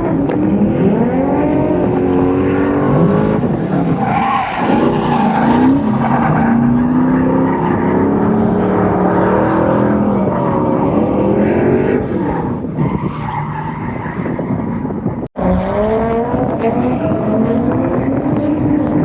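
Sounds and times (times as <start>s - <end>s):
car engine revving: 0.0s - 12.7s, 15.3s - 19.0s.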